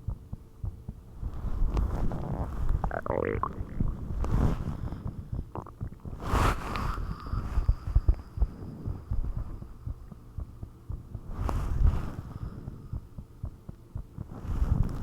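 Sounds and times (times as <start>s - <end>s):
heartbeat thumps: 0.0s - 6.4s, 7.4s - 15.0s
low hum: 1.1s - 13.4s.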